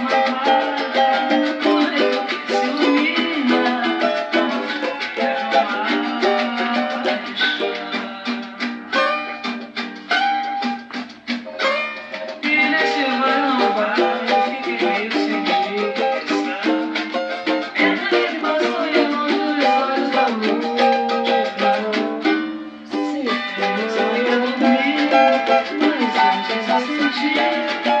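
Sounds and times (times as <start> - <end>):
person singing: 0.0 - 9.8, 11.9 - 28.0
plucked and strummed cavaquinho: 0.0 - 28.0.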